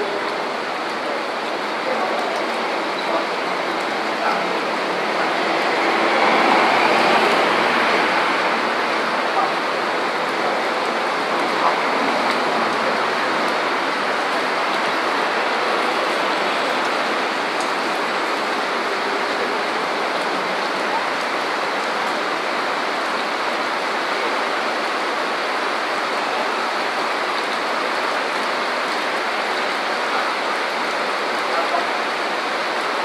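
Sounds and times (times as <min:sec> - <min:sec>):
heavy rain on street: 0:00.0 - 0:33.0.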